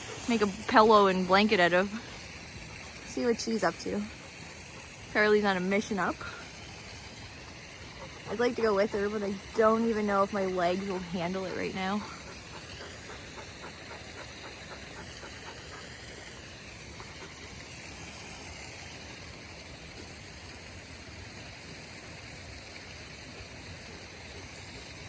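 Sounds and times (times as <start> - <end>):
running water from waterfall: 0.0 - 25.0.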